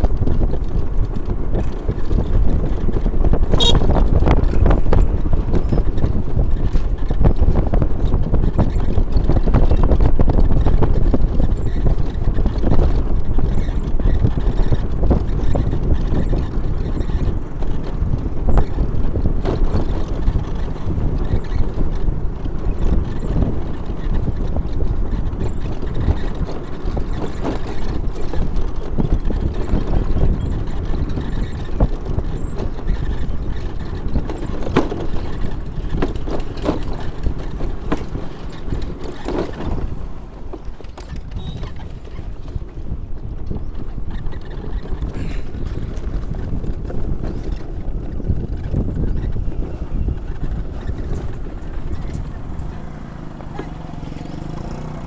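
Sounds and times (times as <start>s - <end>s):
vehicle rumbling on rough road: 0.0s - 55.0s
wind buffeting microphone: 0.0s - 55.0s.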